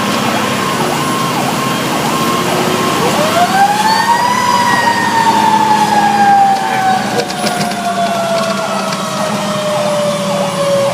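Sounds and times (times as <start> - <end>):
electronic siren cycling: 0.0 - 10.9
siren rising wail: 0.0 - 10.9
truck engine droning: 0.0 - 10.9.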